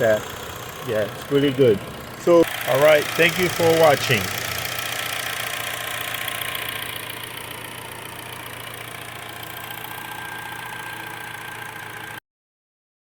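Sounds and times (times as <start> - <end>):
car engine idling: 0.0 - 12.2.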